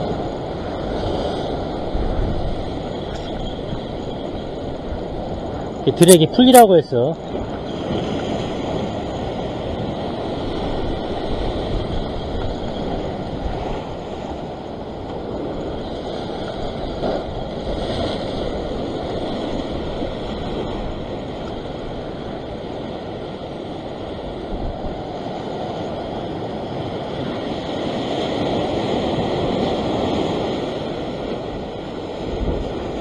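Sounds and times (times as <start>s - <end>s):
ocean surf against rocks: 0.0s - 33.0s
wind buffeting microphone: 0.0s - 33.0s.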